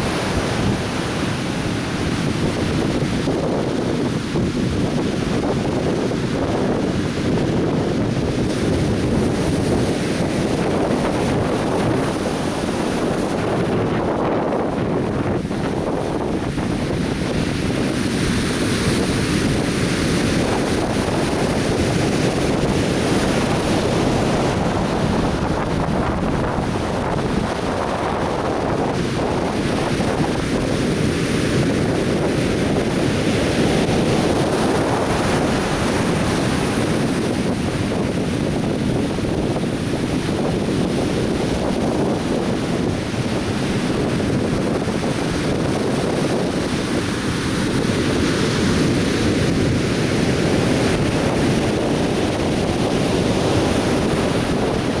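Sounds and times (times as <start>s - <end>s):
surf breaking on a beach: 0.0s - 55.0s.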